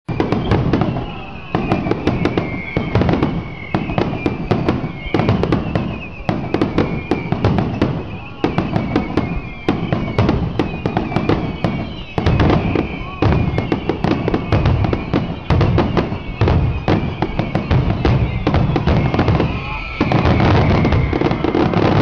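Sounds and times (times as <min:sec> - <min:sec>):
fireworks bursting with bangs: 0:00.1 - 0:22.0.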